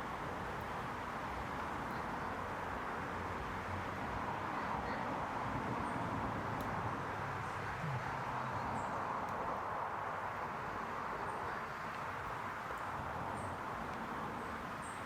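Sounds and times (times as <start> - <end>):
even outdoor hiss: 0.0 - 15.0.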